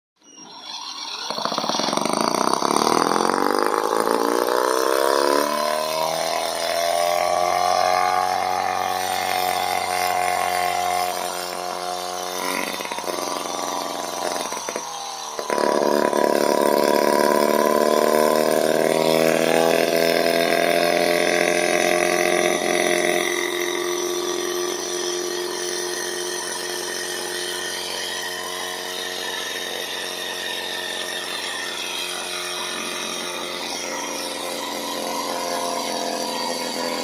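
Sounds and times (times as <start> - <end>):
model engine running: 0.4 - 37.0.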